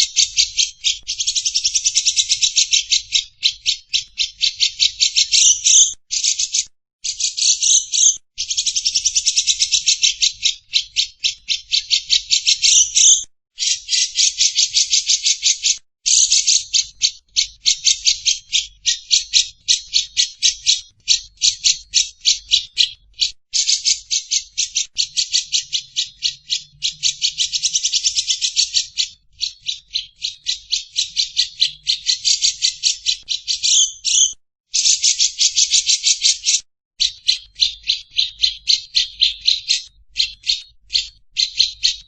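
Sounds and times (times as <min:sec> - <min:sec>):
bird chattering trill: 0:00.0 - 0:22.9, 0:23.6 - 0:42.0.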